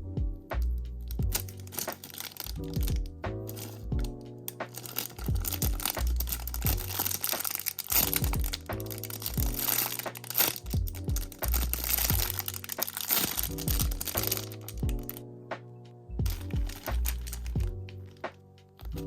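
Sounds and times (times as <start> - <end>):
music with bass pulse: 0.0 - 19.0
plastic packaging crinkling: 1.0 - 15.2, 16.2 - 19.0.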